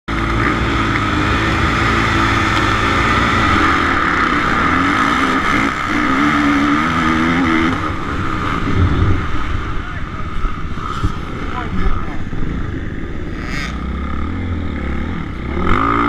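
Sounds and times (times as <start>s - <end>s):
motocross bike engine revving: 0.1s - 16.0s.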